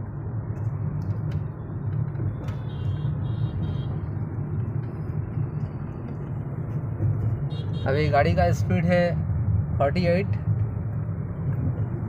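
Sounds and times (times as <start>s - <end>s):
car engine drone in cabin: 0.0s - 12.0s.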